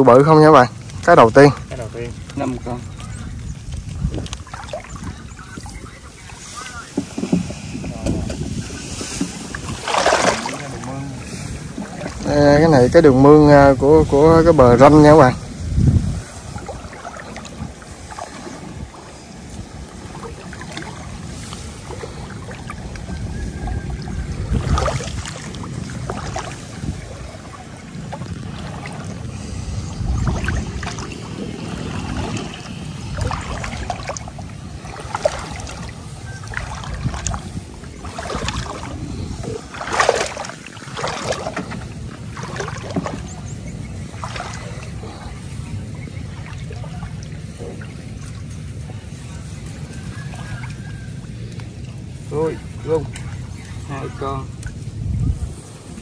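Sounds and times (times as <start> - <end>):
water sloshing and splashing: 0.0 - 56.0.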